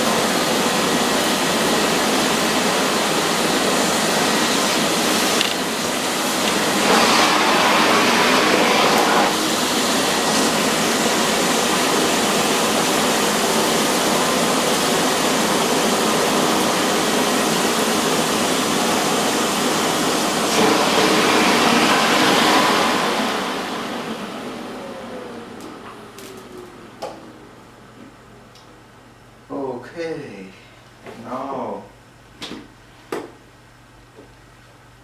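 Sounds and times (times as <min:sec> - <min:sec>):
vacuum cleaner running: 0:00.0 - 0:29.1.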